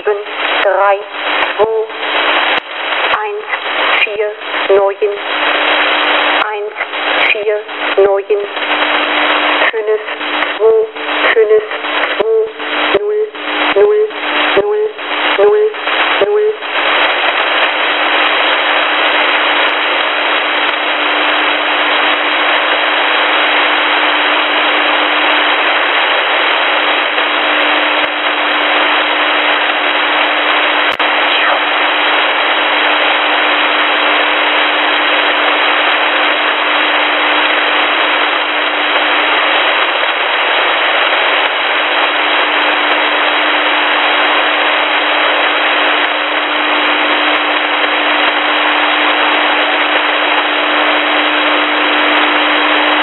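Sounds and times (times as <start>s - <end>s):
radio static hiss and crackle: 0.0s - 53.0s.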